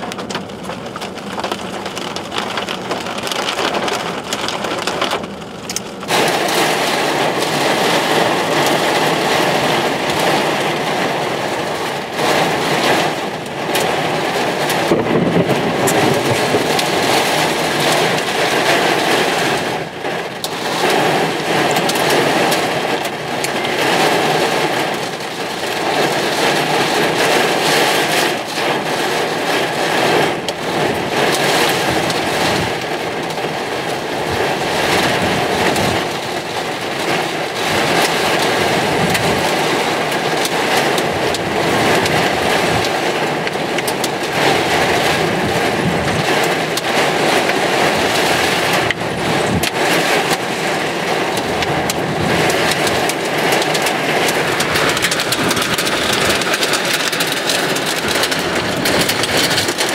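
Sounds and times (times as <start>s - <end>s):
heavy rain in strong wind: 0.0s - 59.9s.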